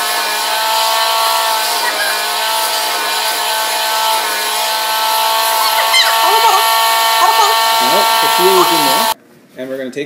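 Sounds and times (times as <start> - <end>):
vacuum cleaner motor whine: 0.0 - 9.2.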